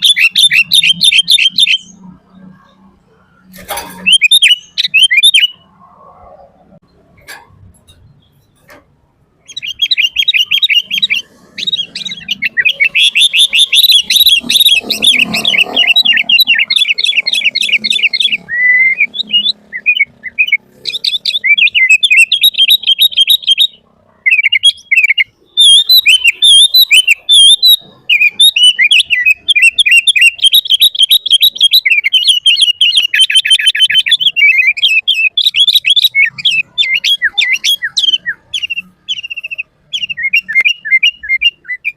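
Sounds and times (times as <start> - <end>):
bird singing chattering chirps: 0.0 - 5.7, 6.8 - 41.9.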